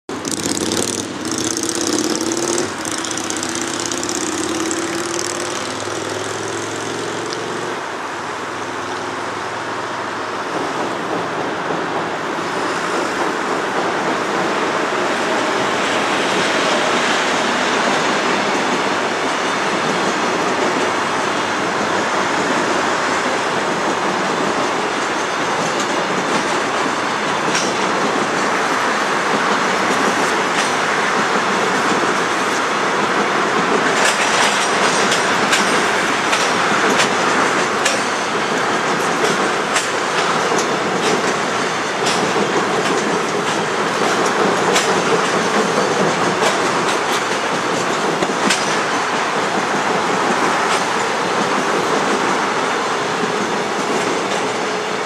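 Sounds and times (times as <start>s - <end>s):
train wheels rumbling on steel bridge: 0.1s - 55.0s.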